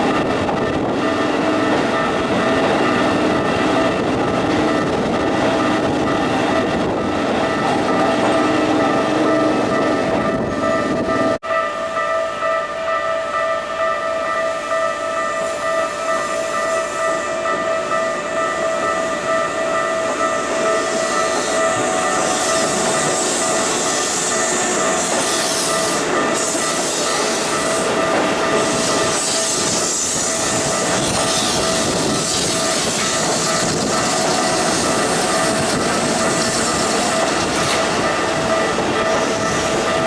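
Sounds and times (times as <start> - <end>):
crossing warning bell ringing: 0.0 - 40.0
train passing rumble: 0.0 - 40.0.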